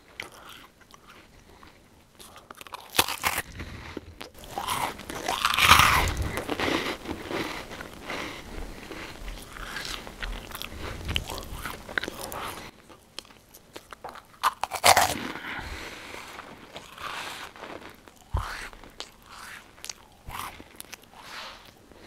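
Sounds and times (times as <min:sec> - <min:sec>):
crackers being chewed: 0:00.0 - 0:22.0.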